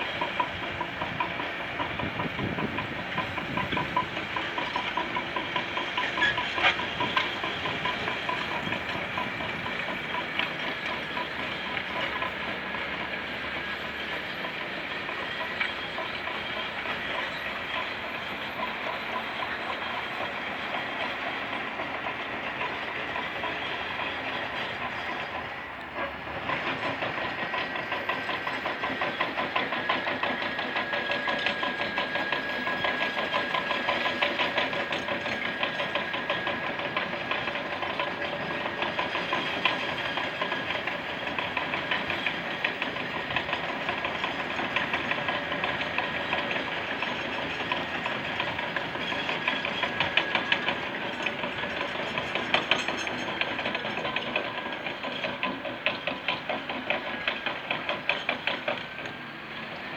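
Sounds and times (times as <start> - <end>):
bulldozer diesel engine running: 0.0 - 59.9
metallic clatter of steel tracks: 0.0 - 59.9.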